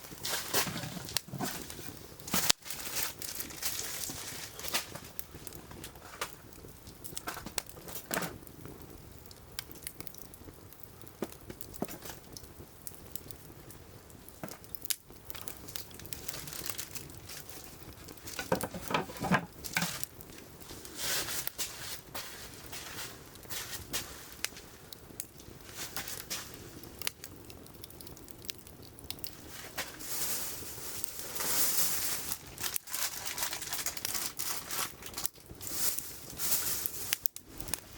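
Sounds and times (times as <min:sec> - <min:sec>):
sharp pops from fire: 0:00.0 - 0:37.9
wood fire crackling: 0:00.0 - 0:37.9.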